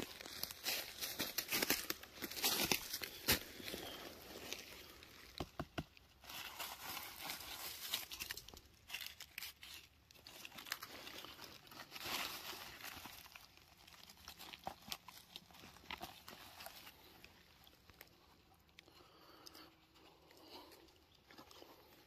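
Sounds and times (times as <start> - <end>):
dry leaves rustling and crackling: 0.0 - 5.4, 6.1 - 18.5.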